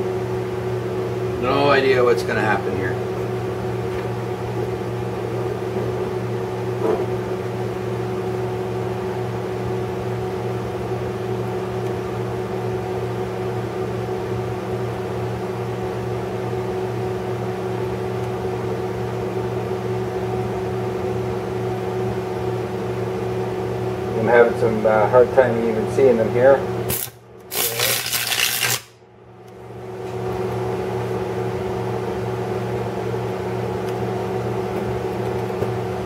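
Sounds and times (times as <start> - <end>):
welder humming: 0.0 - 36.0.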